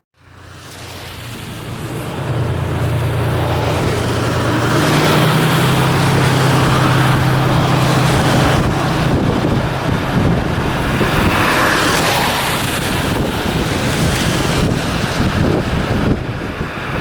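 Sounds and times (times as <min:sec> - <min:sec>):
locomotive engine droning: 0:00.2 - 0:16.7.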